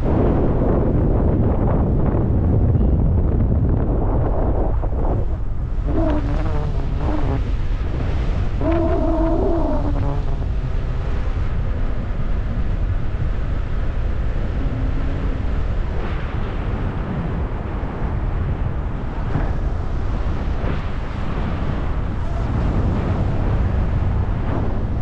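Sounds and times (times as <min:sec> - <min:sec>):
wind roar over microphone: 0:00.0 - 0:25.0.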